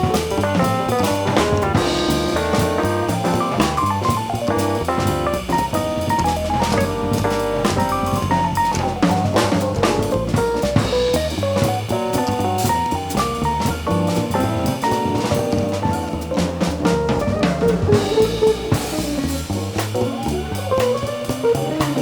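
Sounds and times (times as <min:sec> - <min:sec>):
drum kit: 0:00.0 - 0:22.0
live jazz band playing: 0:00.0 - 0:22.0.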